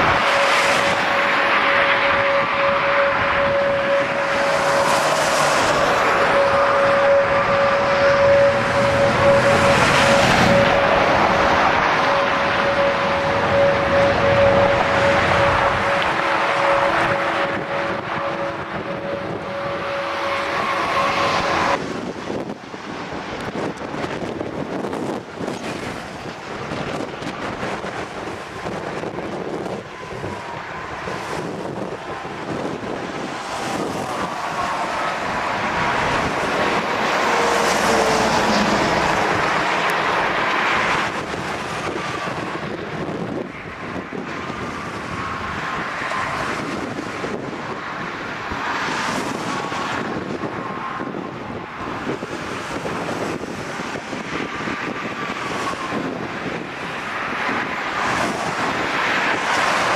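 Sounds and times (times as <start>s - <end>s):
storm wind buffeting microphone: 0.0s - 59.9s.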